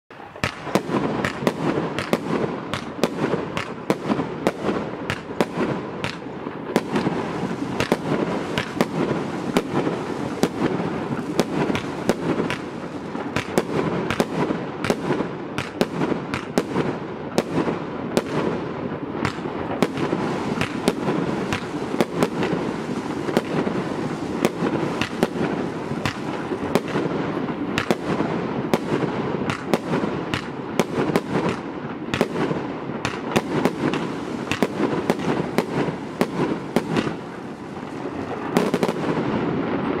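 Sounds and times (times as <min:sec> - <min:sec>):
firework shots banging: 0:00.1 - 0:40.0
firework stars bursting: 0:00.1 - 0:40.0.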